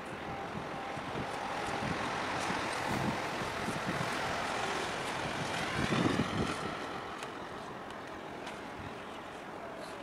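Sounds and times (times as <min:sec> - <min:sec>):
wind buffeting microphone: 0:00.0 - 0:09.1
distant engines rumbling: 0:00.0 - 0:10.0.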